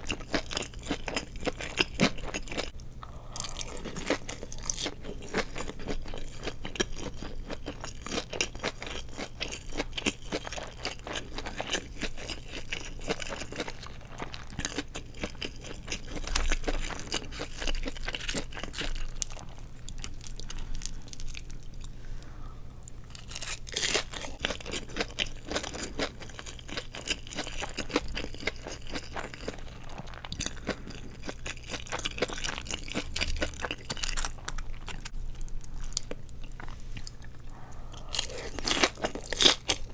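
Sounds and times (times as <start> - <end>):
person crunching crisp food: 0.0 - 22.0, 23.0 - 39.9.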